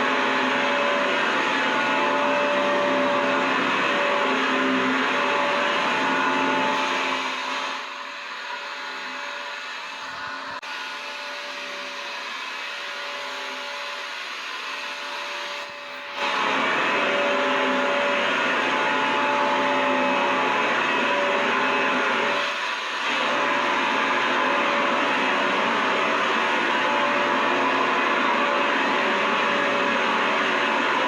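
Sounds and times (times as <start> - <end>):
vacuum cleaner motor running: 0.0 - 31.0.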